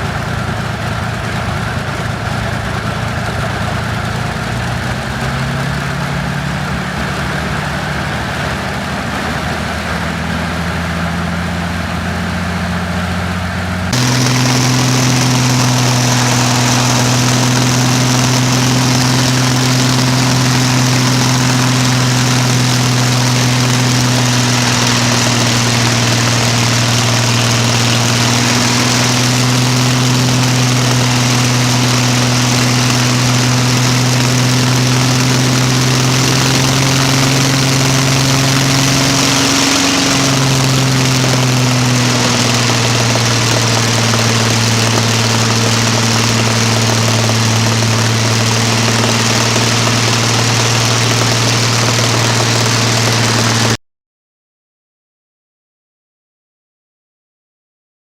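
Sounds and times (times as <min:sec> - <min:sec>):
piston aircraft engine running: 0:00.0 - 0:53.8.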